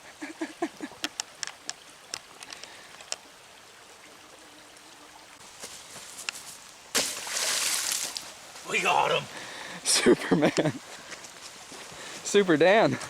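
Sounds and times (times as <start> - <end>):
small stream running: 0.0 - 13.0.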